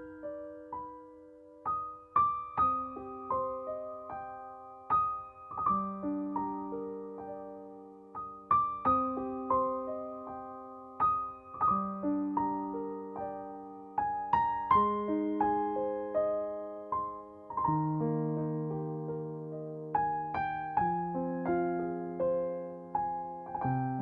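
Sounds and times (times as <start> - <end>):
soft piano music: 0.0 - 24.0.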